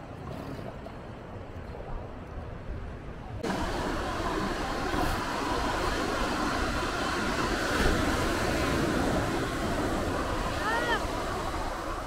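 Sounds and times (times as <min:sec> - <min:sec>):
surf: 0:00.0 - 0:12.0.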